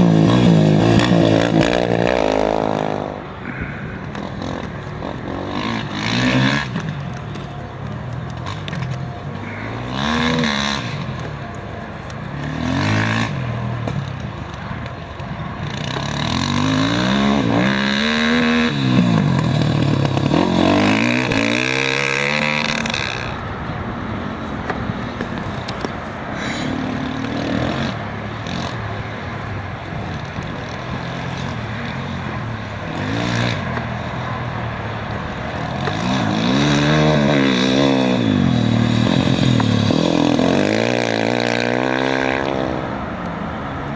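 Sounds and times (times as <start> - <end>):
motorcycles and quad bikes passing: 0.0 - 43.9.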